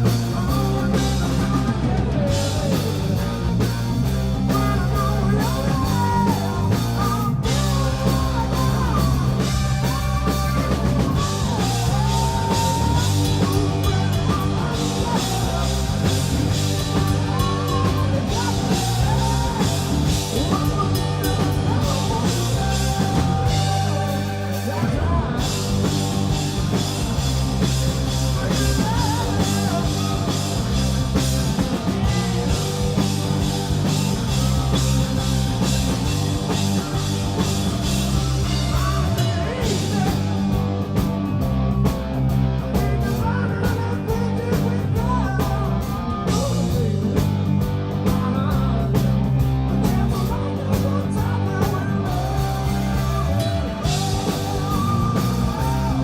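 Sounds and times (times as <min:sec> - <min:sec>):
person singing: 0:00.0 - 0:03.6, 0:04.4 - 0:27.0, 0:28.3 - 0:40.8, 0:42.7 - 0:47.3, 0:49.8 - 0:56.0
bass guitar: 0:00.0 - 0:56.0
drum kit: 0:00.0 - 0:56.0
electric guitars: 0:00.0 - 0:56.0.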